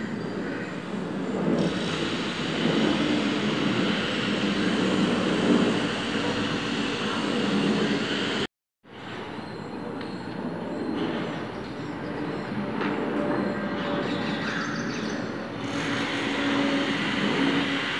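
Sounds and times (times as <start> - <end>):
jet airliner flying overhead: 0.0 - 17.9.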